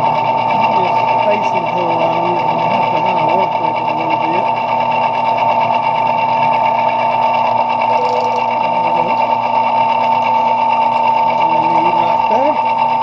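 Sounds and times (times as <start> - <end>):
metal lathe whining: 0.0 - 13.0.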